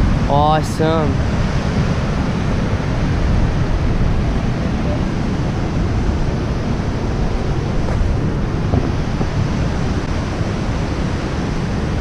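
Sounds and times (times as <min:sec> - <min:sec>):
wind buffeting microphone: 0:00.0 - 0:12.0
waterfall whitewater rushing: 0:00.1 - 0:12.0.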